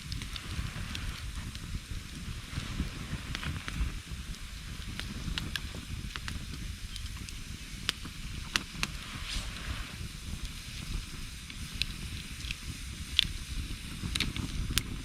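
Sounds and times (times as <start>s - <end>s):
campfire crackling and popping: 0.0s - 15.0s
fire hiss and low rumble: 0.0s - 15.0s.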